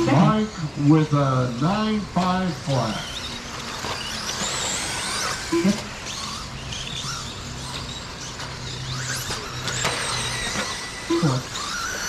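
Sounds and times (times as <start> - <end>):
electric motors whining: 0.0 - 12.0
steady low hum: 0.0 - 12.0.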